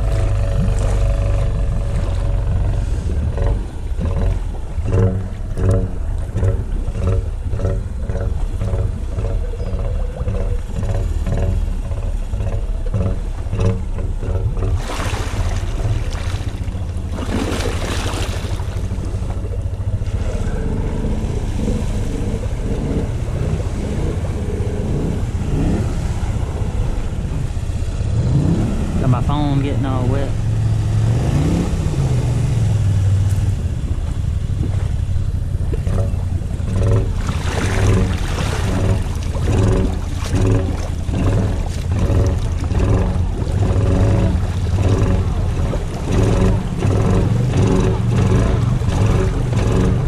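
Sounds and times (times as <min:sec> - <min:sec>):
quad engine running: 0:00.0 - 0:14.8, 0:15.7 - 0:50.0
loud water splashing: 0:00.0 - 0:50.0
water churning and sloshing: 0:00.0 - 0:50.0.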